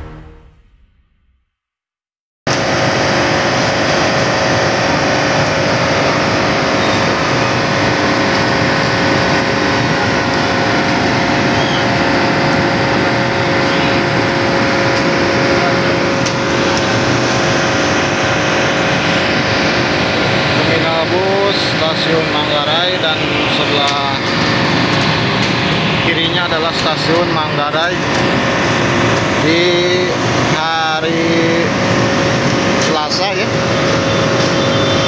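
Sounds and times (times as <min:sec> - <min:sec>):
constant hum: 0:02.5 - 0:35.0
motorbike and car traffic: 0:02.5 - 0:35.0.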